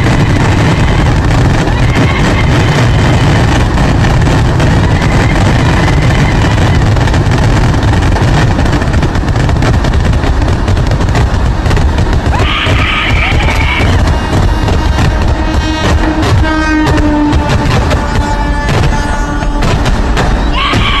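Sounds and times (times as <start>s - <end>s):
firecrackers crackling continuously: 0.0s - 21.0s.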